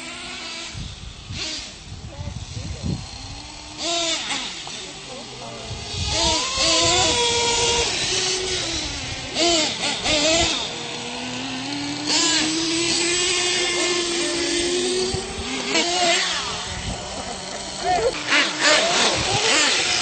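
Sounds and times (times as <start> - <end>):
toy truck motors whining: 0.0 - 20.0.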